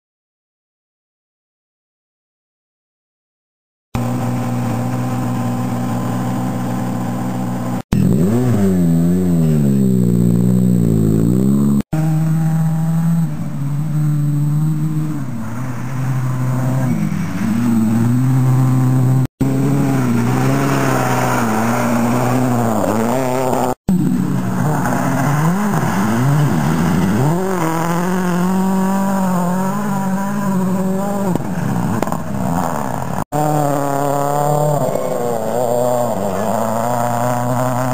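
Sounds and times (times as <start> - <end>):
rally car engine revving: 4.0 - 37.9.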